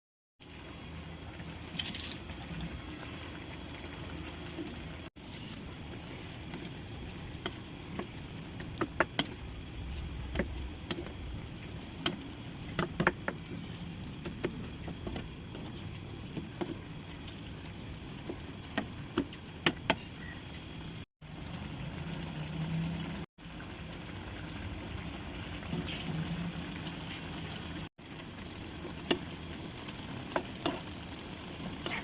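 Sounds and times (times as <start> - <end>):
food simmering in a pan: 0.4 - 32.0.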